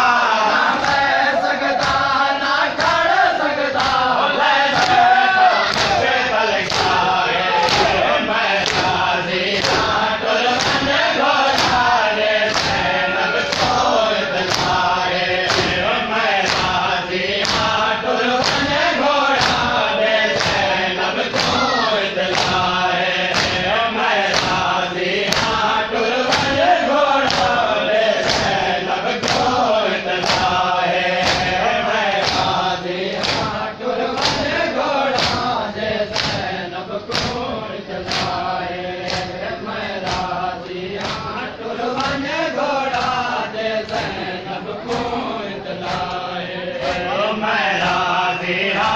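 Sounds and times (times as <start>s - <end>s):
crowd of men chanting: 0.0s - 48.9s
rhythmic chest-beating slaps: 0.0s - 48.9s.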